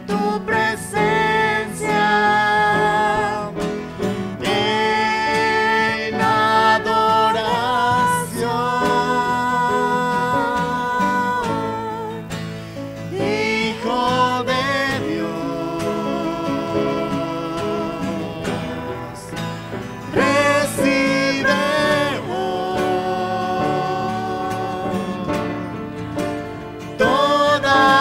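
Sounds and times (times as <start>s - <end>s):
voices singing: 0.0s - 12.4s, 13.0s - 28.0s
piano: 0.0s - 28.0s
strummed acoustic guitar: 0.0s - 28.0s.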